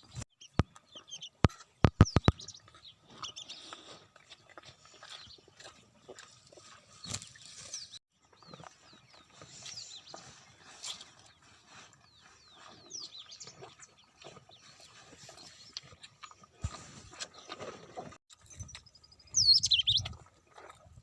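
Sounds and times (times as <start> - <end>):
small birds chirping: 0.0 - 20.3.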